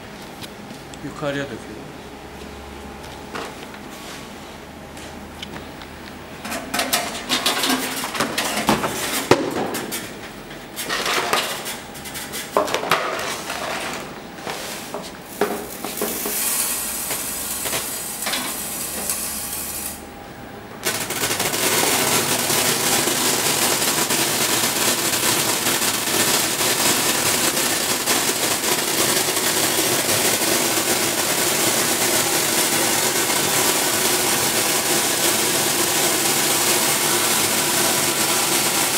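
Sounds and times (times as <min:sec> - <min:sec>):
sorting machine running: 0:06.4 - 0:38.9.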